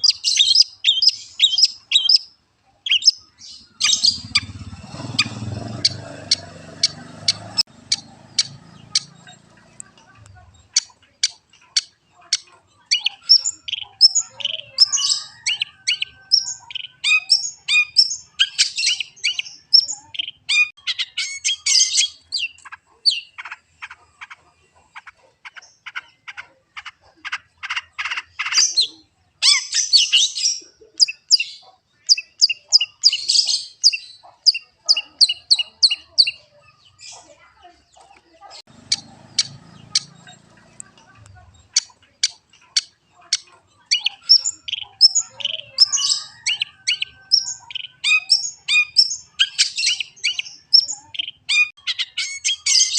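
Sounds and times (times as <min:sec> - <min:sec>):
bird singing chattering song: 0:00.0 - 0:52.9.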